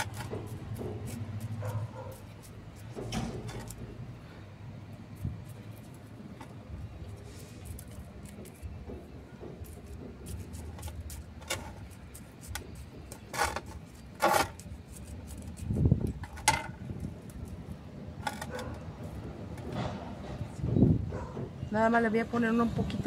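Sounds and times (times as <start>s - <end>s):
stick scraping gritty soil in pot: 0.0s - 4.0s, 5.0s - 20.1s.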